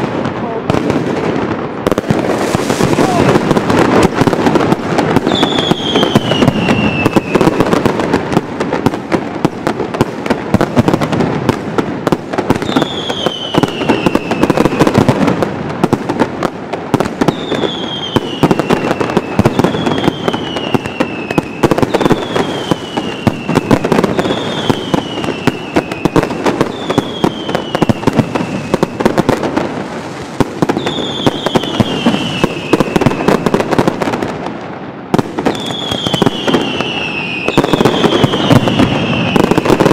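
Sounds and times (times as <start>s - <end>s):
firecracker bangs: 0.0s - 34.4s
whistling fireworks: 0.0s - 39.9s.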